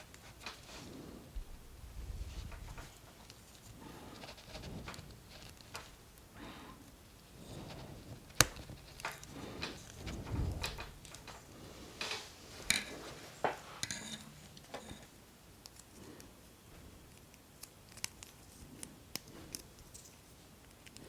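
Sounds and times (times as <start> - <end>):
soft rustle: 0.0 - 21.0.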